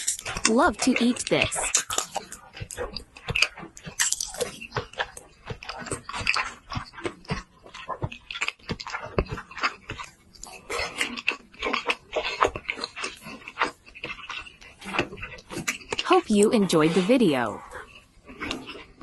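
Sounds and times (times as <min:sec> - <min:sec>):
close chewing and mouth smacks: 0:00.0 - 0:19.0.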